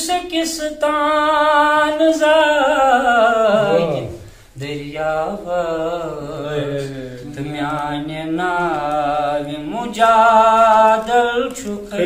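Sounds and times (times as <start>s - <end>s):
man chanting unaccompanied: 0.0s - 12.0s.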